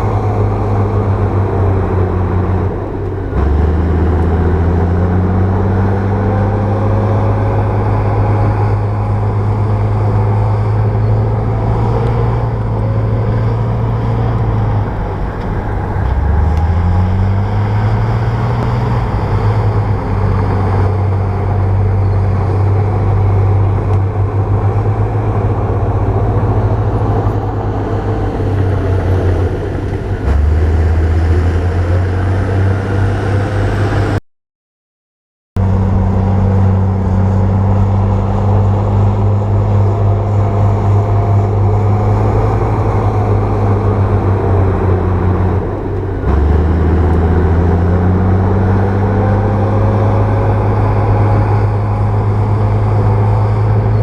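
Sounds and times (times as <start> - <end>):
bulldozer diesel engine under load: 0.0 - 34.2, 35.6 - 54.0.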